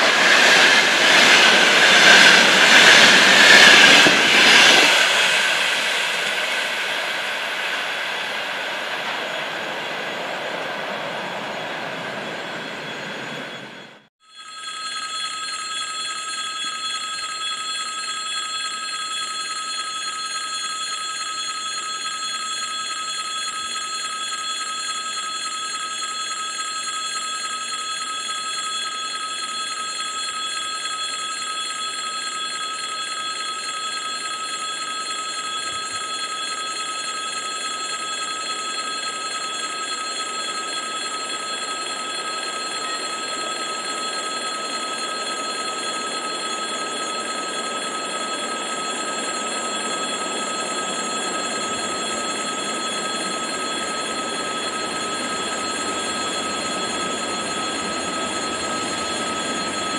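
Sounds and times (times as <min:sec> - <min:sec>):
railway crossing warning bell ringing: 0:00.0 - 0:59.9.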